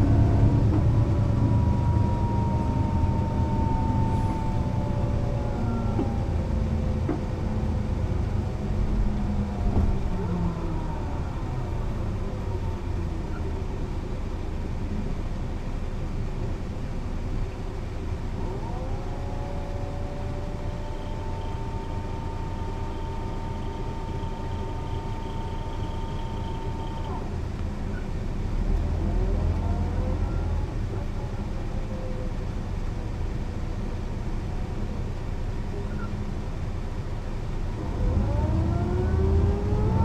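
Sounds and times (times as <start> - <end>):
bus diesel rumble: 0.0 - 40.0
drivetrain whine: 0.0 - 40.0.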